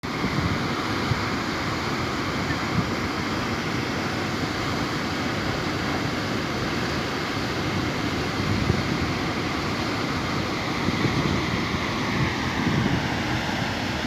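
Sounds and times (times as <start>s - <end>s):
waterfall rushing: 0.1s - 14.0s.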